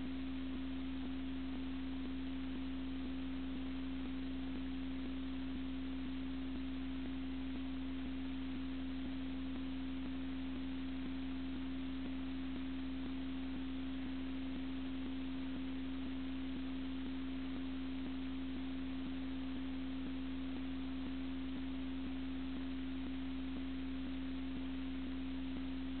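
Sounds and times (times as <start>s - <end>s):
constant hiss: 0.0s - 26.0s
steady electrical hum: 0.0s - 26.0s.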